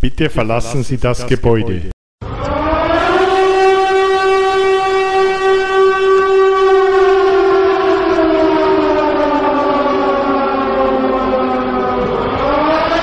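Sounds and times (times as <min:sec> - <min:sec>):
fire alarm wailing siren: 0:02.2 - 0:13.0.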